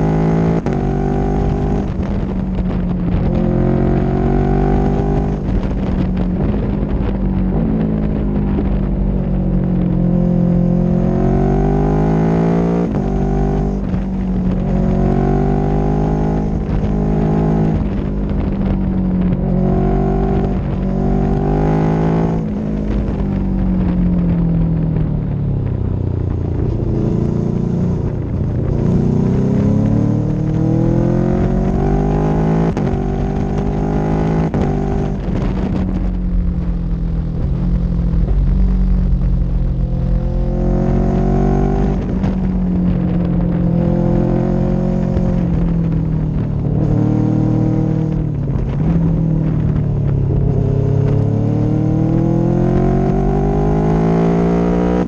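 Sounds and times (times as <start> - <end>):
vehicle engine driving: 0.0 - 55.0.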